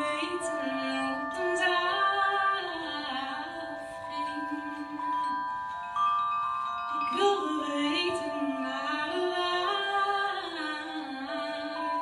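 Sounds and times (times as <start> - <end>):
woman singing: 0.0 - 5.6, 6.9 - 12.0
ringing mallet percussion: 0.0 - 12.0.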